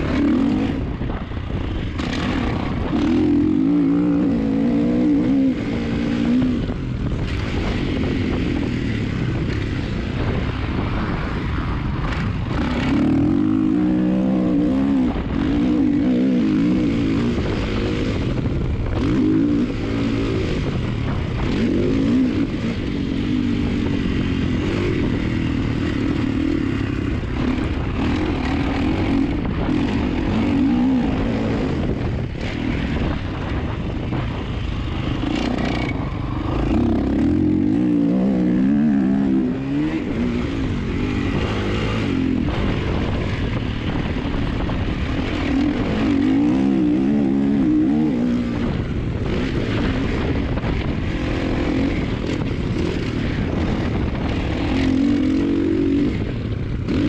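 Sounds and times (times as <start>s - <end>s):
motocross bike engine revving: 0.0s - 57.0s
wind rumble on microphone: 0.0s - 57.0s.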